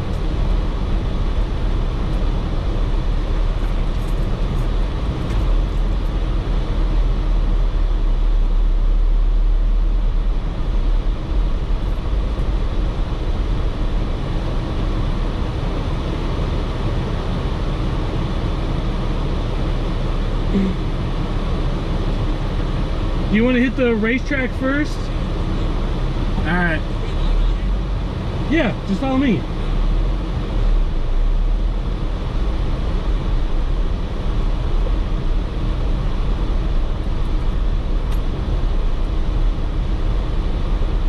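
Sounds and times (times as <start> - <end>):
vehicle engine low rumble: 0.0 - 41.0.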